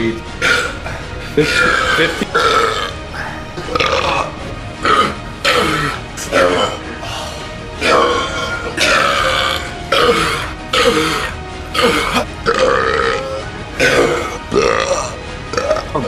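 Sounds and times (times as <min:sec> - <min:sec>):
men burping loudly: 0:00.4 - 0:00.8, 0:01.4 - 0:06.8, 0:07.8 - 0:16.0.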